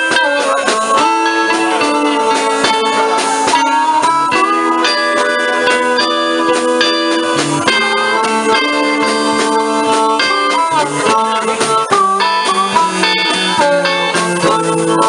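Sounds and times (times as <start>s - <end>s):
blues guitar playing: 0.0s - 15.0s.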